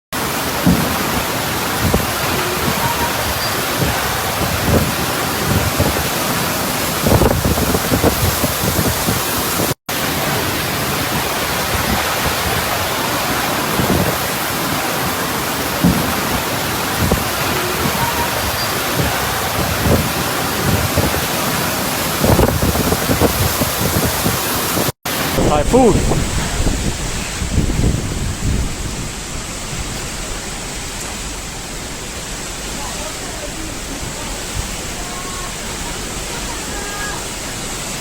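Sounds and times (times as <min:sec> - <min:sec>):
heavy rain pouring: 0:00.1 - 0:38.0
wind buffeting microphone: 0:00.2 - 0:38.0.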